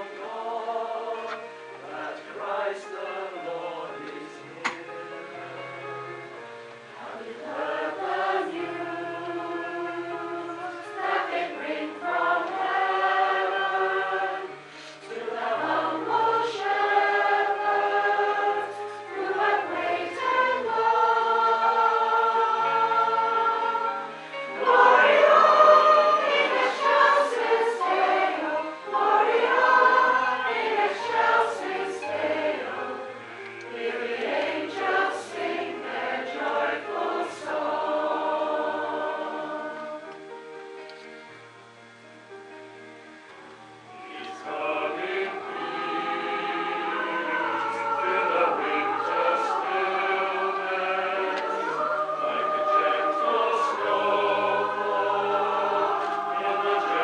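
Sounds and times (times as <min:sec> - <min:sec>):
mixed choir singing: 0:00.0 - 0:41.1, 0:43.5 - 0:57.0.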